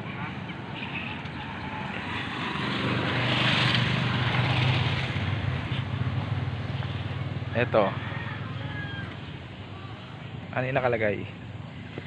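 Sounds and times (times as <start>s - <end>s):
passing engine hum: 0.0s - 10.5s.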